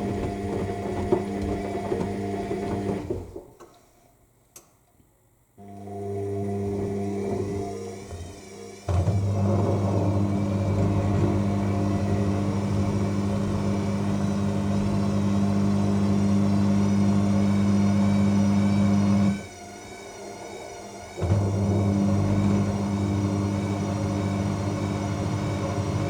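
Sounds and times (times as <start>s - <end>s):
washing machine spinning: 0.0s - 3.4s, 5.8s - 26.0s.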